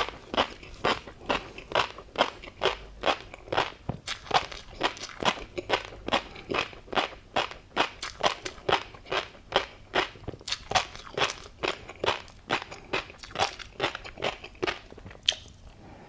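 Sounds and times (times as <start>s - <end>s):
crisp crunchy chewing: 0.0s - 15.7s.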